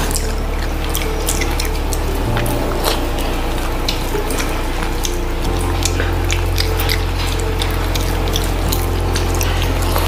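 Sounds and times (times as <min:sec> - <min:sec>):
chewing and lip smacks: 0:00.0 - 0:10.0
steady low hum: 0:00.0 - 0:10.0.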